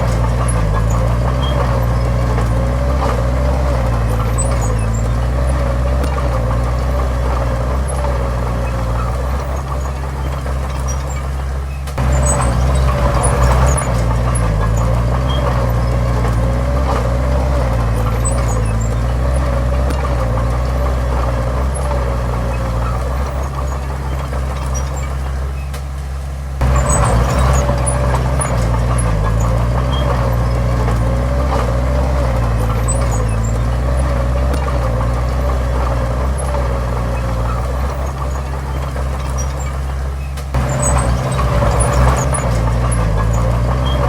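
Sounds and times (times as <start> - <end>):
heavy diesel machinery engine: 0.0 - 44.0.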